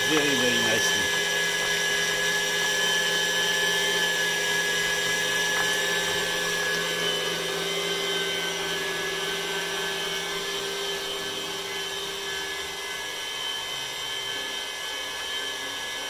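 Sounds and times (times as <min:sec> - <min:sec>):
motor whine: 0:00.0 - 0:16.0
stand mixer whisking: 0:00.0 - 0:16.0.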